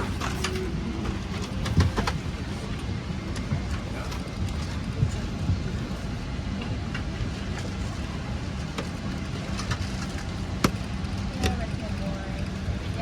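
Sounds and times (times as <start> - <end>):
airliner cabin hum: 0.0 - 13.0.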